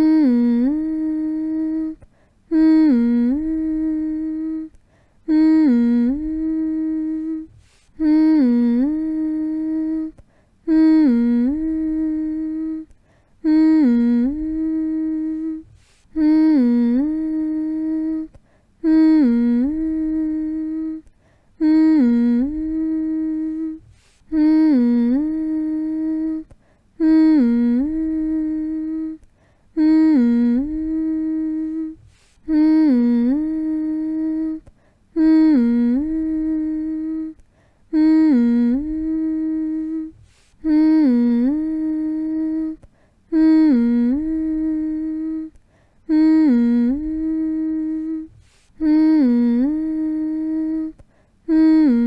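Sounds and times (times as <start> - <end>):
person humming: 0.0 - 52.0.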